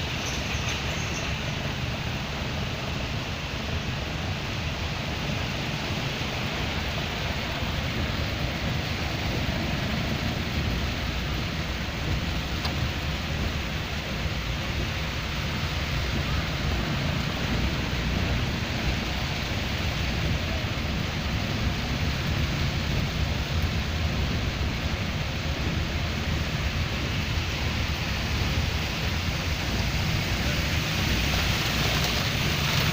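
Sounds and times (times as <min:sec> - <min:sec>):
rushing water: 0:00.0 - 0:32.9.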